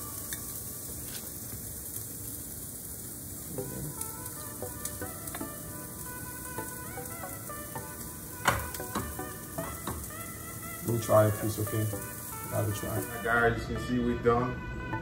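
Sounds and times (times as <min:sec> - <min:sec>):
soft background music: 0:00.0 - 0:01.2, 0:03.4 - 0:15.0
steady hiss: 0:00.0 - 0:14.1.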